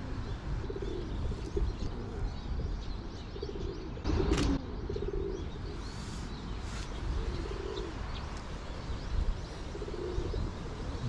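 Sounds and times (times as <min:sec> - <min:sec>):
pigeons cooing: 0:00.0 - 0:08.2, 0:09.3 - 0:11.0.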